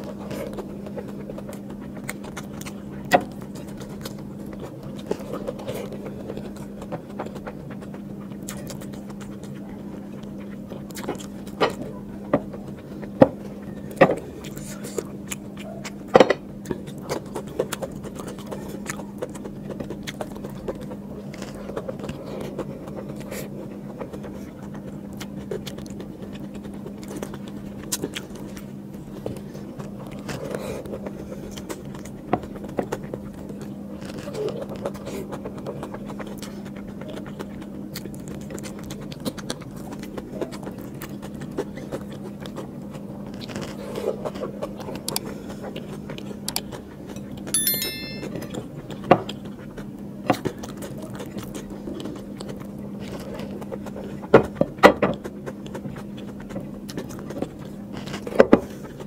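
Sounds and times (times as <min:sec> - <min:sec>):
chewing: 0:00.0 - 0:13.2, 0:14.2 - 0:16.0, 0:16.6 - 0:45.9, 0:50.5 - 0:59.0.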